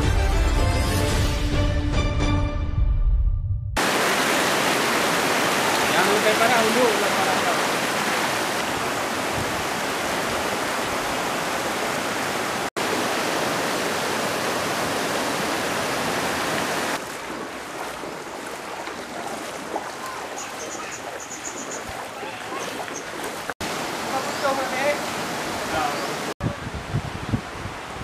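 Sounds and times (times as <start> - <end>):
floodwater rushing over ground: 3.8 - 28.0.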